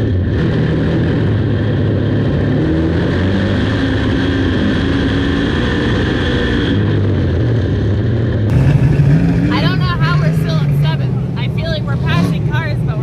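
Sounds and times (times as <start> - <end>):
race car engine running hard: 0.0 - 13.0.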